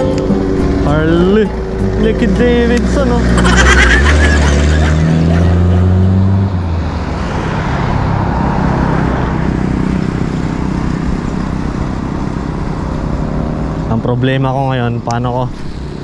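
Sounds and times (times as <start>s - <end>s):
loud motorcycle engine: 0.0s - 16.0s
traffic noise: 0.0s - 16.0s.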